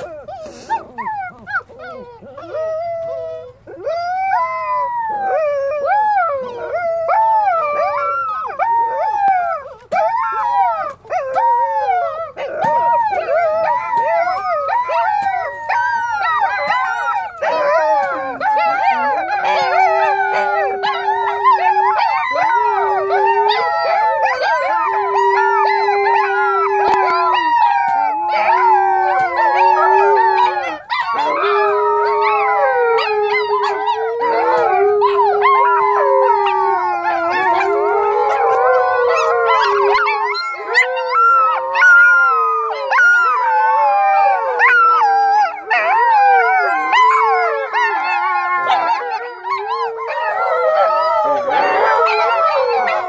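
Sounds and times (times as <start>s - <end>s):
pups howling together: 0.0s - 53.0s.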